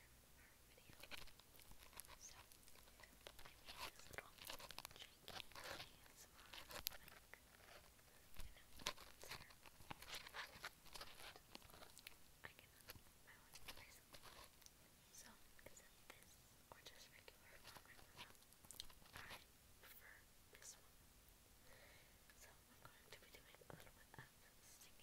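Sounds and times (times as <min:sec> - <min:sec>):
soft whispering: 0:00.0 - 0:21.0, 0:21.7 - 0:25.0
faint microphone hiss: 0:00.0 - 0:25.0.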